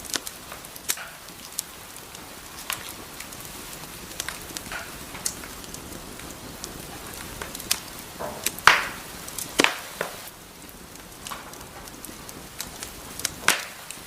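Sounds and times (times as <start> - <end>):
soft steady hiss: 0.0 - 14.0
wood fire crackling: 0.0 - 14.0.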